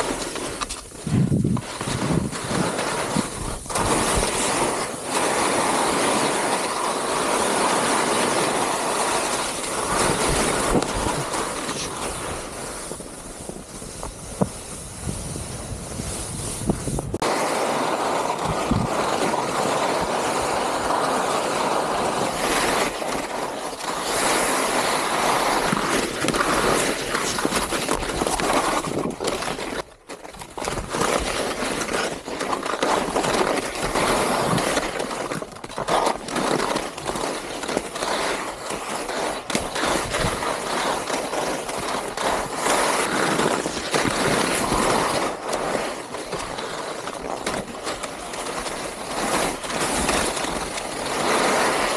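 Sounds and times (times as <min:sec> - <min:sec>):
skis sliding over snow: 0:00.0 - 0:51.9.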